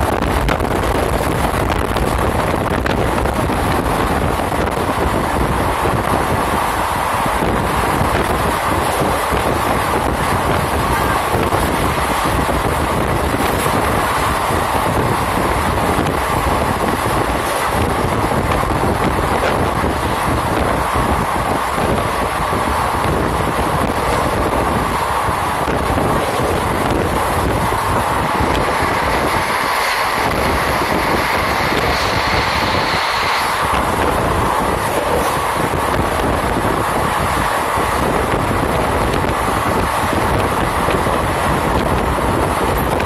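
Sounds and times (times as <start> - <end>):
moving train rushing: 0.0 - 43.0
wind buffeting the microphone: 0.0 - 43.0.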